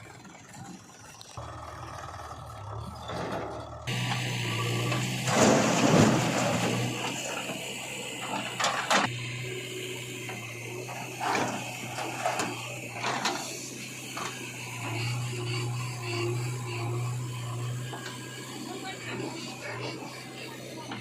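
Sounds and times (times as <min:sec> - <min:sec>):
machine motor humming: 0:03.6 - 0:21.0.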